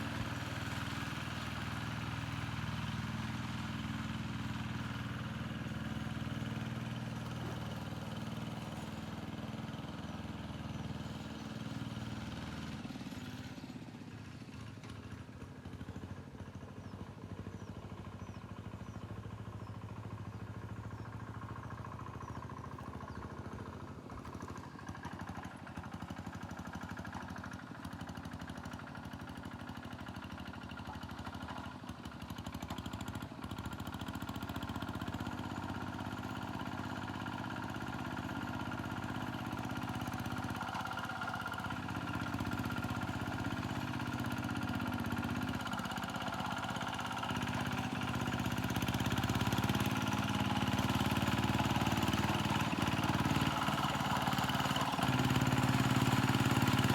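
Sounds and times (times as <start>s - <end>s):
tractor engine at full throttle: 0.0s - 56.9s.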